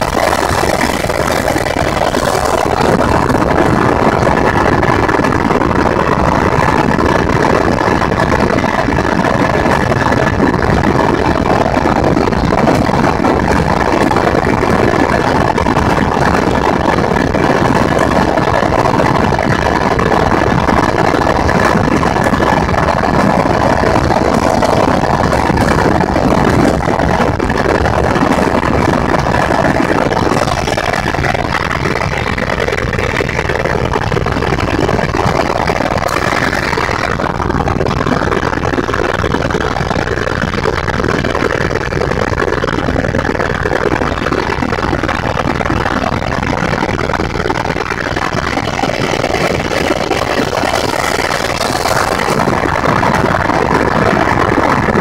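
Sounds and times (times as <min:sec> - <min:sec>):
helicopter engine and rotors drone: 0:00.0 - 0:55.0.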